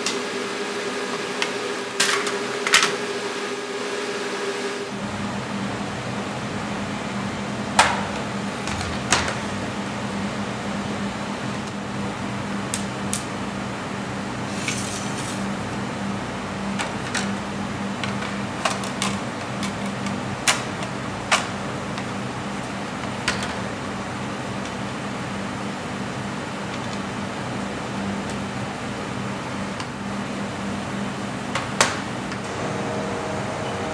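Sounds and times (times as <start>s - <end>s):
machinery humming: 0.0s - 33.9s.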